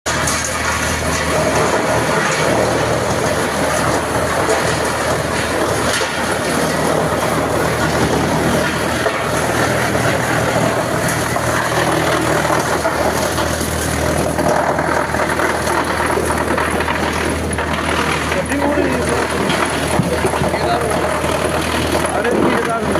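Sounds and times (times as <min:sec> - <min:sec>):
wood-cutting machine humming: 0:00.1 - 0:22.9.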